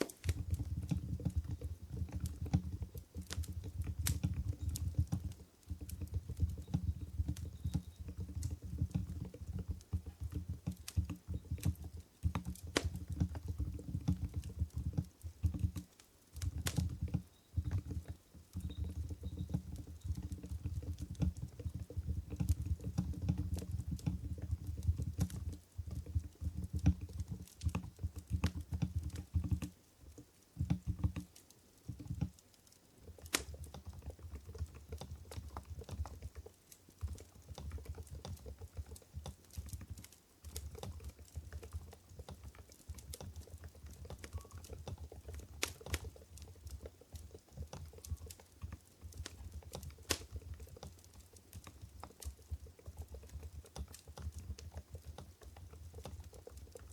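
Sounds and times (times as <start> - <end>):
soft muted keyboard typing: 0.0 - 56.9.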